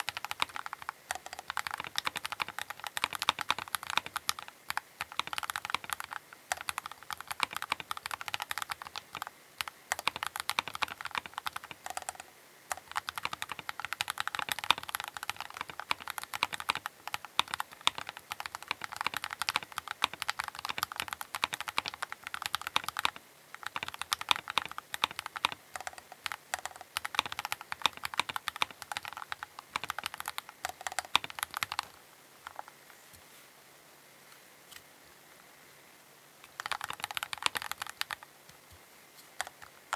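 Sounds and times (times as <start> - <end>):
mechanical keyboard typing: 0.0 - 32.8, 36.4 - 38.3, 39.4 - 39.9.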